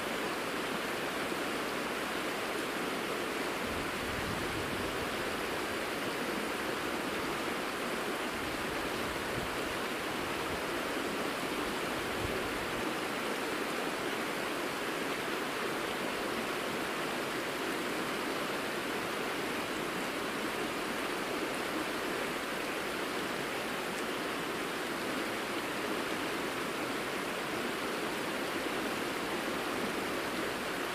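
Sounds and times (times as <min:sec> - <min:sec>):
river flowing over gravel: 0:00.0 - 0:30.9.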